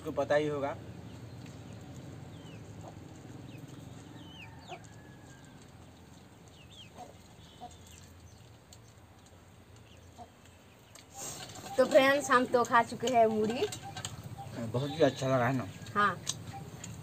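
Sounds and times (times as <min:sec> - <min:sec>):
chickens clucking: 0:01.4 - 0:17.0.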